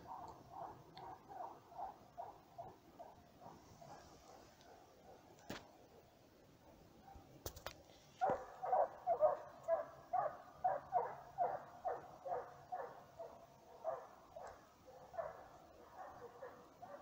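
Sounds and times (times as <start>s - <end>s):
hounds barking: 0.0s - 7.3s, 8.2s - 17.0s.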